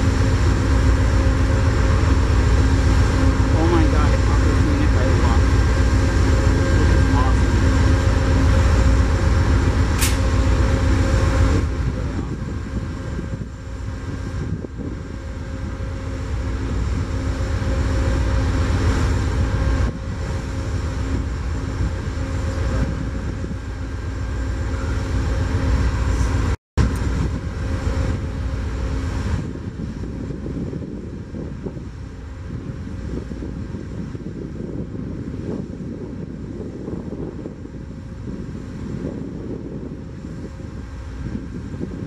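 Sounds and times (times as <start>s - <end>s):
diesel locomotive engine rumble: 0.0s - 42.0s.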